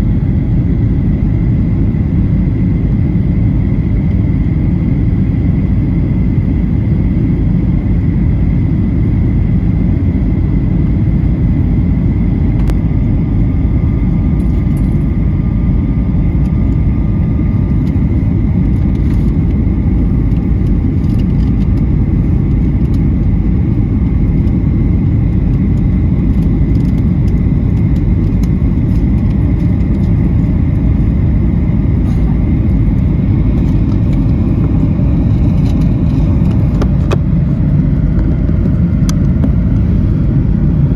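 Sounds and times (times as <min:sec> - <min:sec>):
jet cabin engine rumble: 0:00.0 - 0:40.9.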